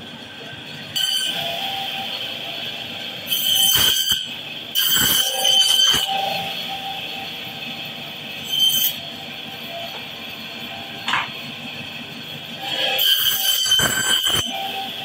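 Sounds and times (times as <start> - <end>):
saw blade screeching: 0.8 - 15.0.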